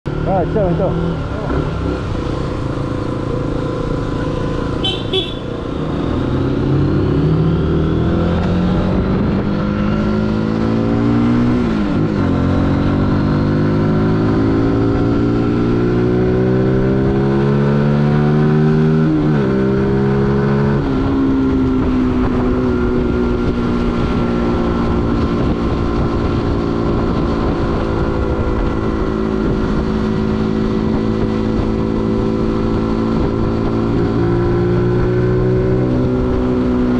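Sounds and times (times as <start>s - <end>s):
motorcycle engine accelerating: 0.1s - 36.9s.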